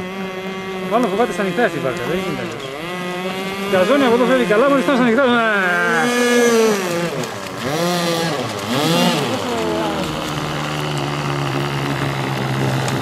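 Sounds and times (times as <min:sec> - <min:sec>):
voices: 0:00.0 - 0:12.5
boat engine humming: 0:00.0 - 0:13.0.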